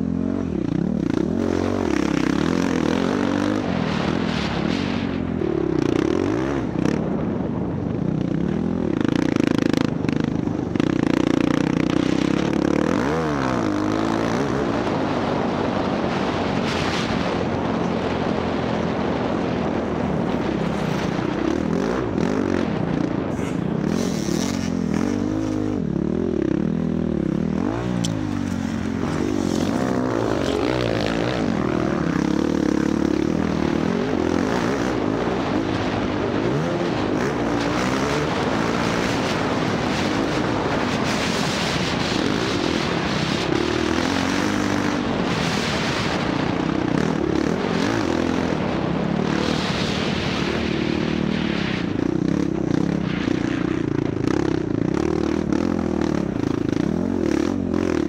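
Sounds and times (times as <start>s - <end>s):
dirt bike engine revving: 0.0s - 7.6s, 8.2s - 58.0s.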